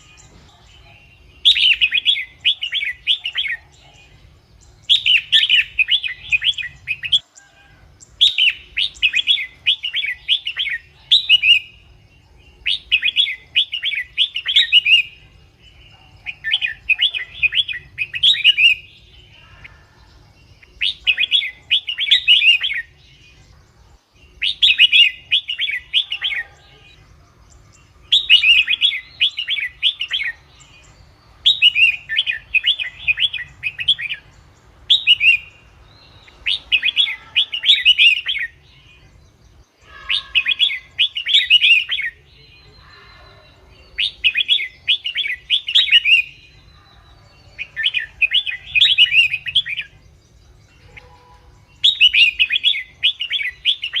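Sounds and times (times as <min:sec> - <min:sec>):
bird singing warbled phrases: 0:00.0 - 0:54.0.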